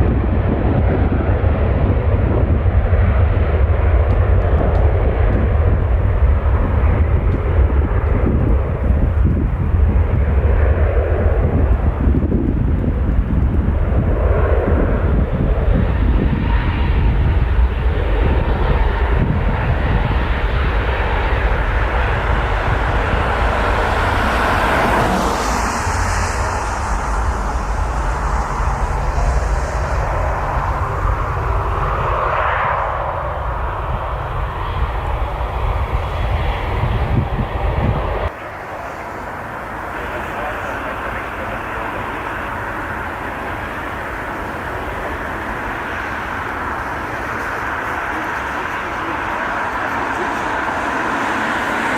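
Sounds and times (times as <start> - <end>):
jet airliner engines rumbling: 0.0 - 51.9.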